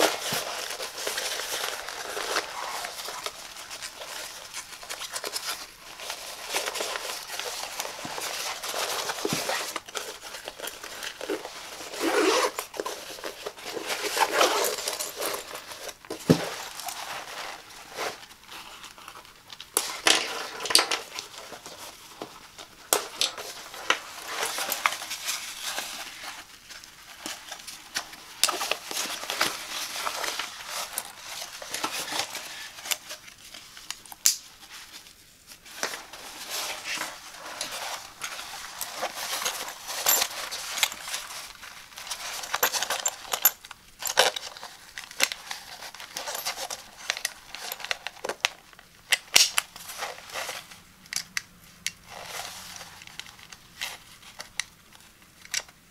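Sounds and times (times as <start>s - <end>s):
nylon fabric rustling: 0.0s - 33.9s, 34.6s - 48.5s.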